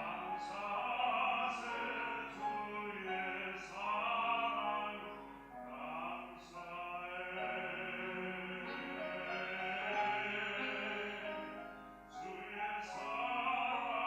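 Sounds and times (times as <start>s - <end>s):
baritone singing: 0.0s - 14.0s
musical accompaniment: 0.0s - 14.0s.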